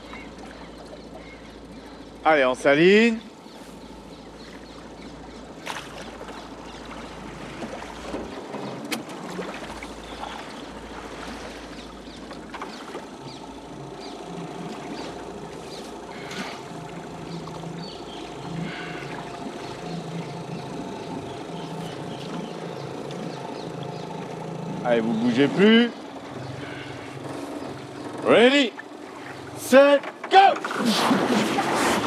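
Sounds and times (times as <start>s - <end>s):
motorboat engine idling: 0.0s - 32.0s
kayak paddles splashing: 3.0s - 32.0s.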